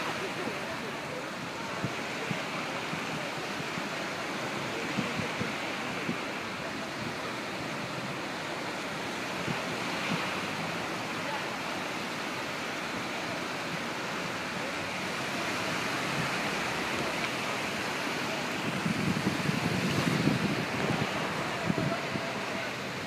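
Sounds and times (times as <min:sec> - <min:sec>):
waves against breakwater: 0:00.0 - 0:23.0
wind: 0:00.0 - 0:23.0.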